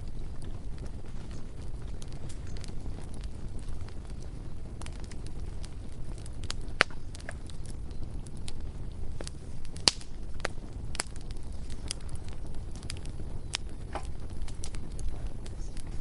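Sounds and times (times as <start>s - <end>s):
bonfire crackling and popping: 0.0s - 16.0s
low rumble of fire: 0.0s - 16.0s.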